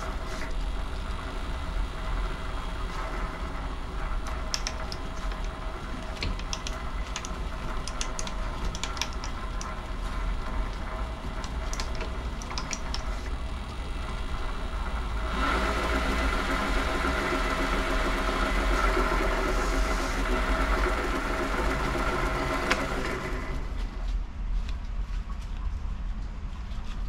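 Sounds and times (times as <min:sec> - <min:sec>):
lathe running with whine: 0:00.0 - 0:23.9.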